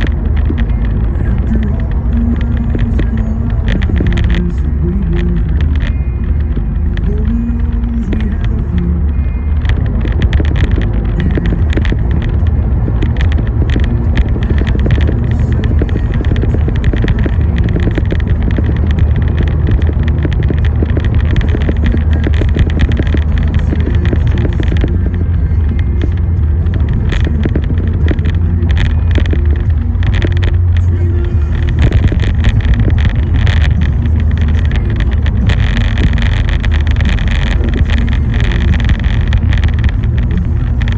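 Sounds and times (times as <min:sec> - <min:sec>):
car driving on road: 0:00.0 - 0:40.9
raindrops ticking on car: 0:00.0 - 0:40.9.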